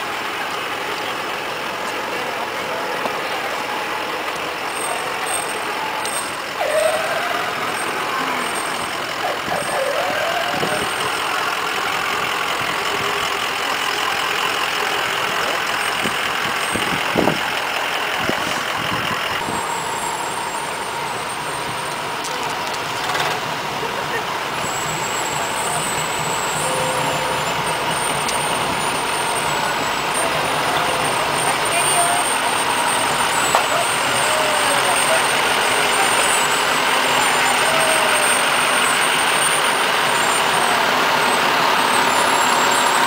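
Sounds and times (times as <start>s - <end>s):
crowd voices: 0.0s - 43.0s
vehicles driving slowly past: 0.0s - 43.0s.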